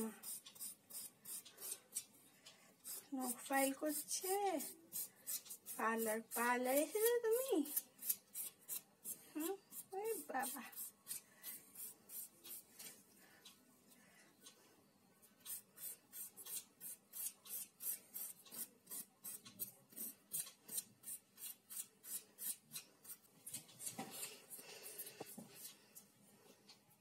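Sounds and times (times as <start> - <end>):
nail file rasping on claws: 0.0 - 2.1, 2.8 - 12.7, 15.3 - 25.8.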